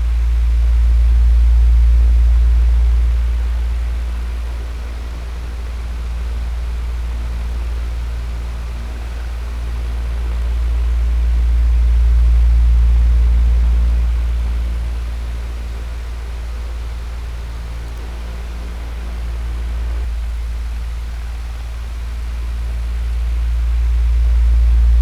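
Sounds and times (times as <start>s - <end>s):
electric fan humming: 0.0s - 25.0s.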